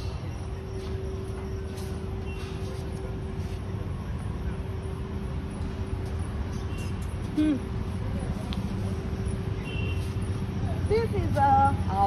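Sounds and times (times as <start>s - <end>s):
mid-pitched hum: 0.0s - 12.0s.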